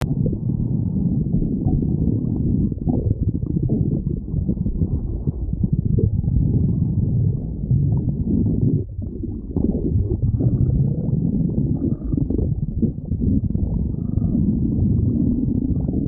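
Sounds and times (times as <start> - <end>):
stomach growling: 0.0 - 16.0.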